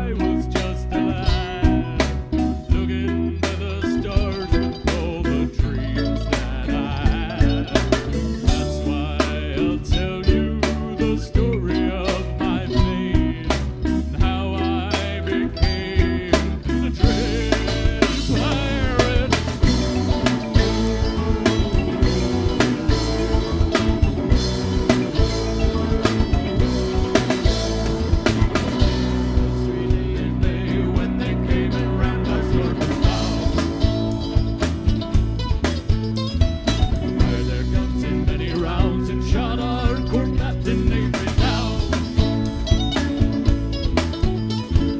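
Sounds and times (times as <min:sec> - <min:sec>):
person singing: 0:00.0 - 0:35.8, 0:36.7 - 0:43.5
live rock band playing: 0:00.0 - 0:44.9.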